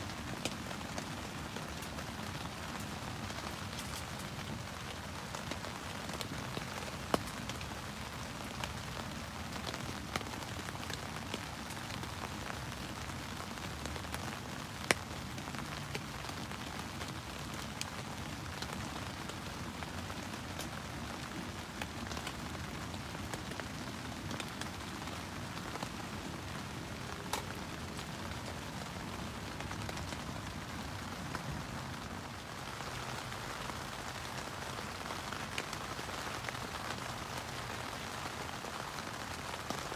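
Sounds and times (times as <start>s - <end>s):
rain pattering on tent fabric: 0.0s - 39.9s.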